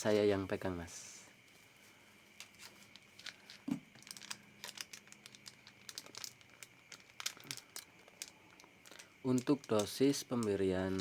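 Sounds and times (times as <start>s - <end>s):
crinkling handling noises: 0.0s - 11.0s
faint steady hum: 0.0s - 11.0s.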